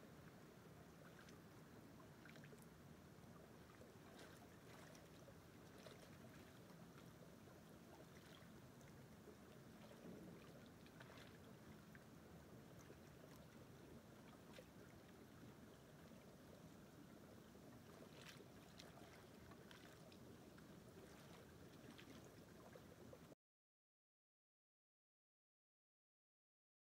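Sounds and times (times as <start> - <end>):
creek flowing: 0.0 - 23.4
small splashes and ticks: 0.1 - 23.4.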